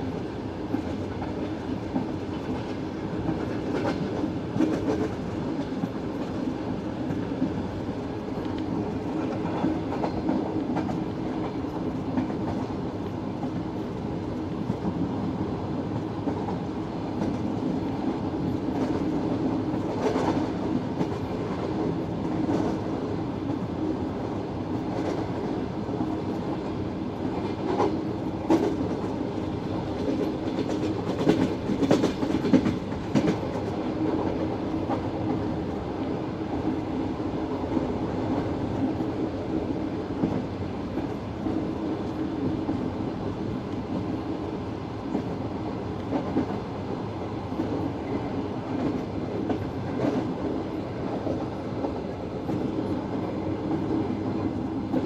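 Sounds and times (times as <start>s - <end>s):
clickety-clack over rail joints: 0.0s - 55.0s
train wheels rumbling on rails: 0.0s - 55.0s.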